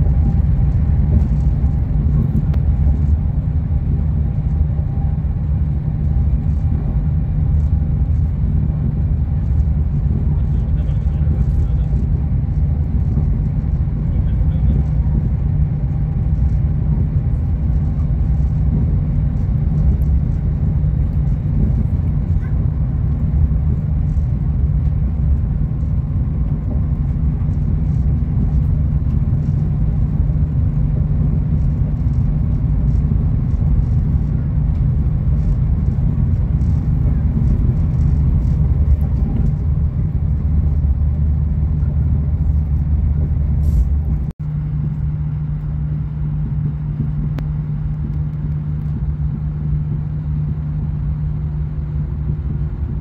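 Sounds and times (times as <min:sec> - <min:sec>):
train rumbling inside carriage: 0:00.0 - 0:53.0.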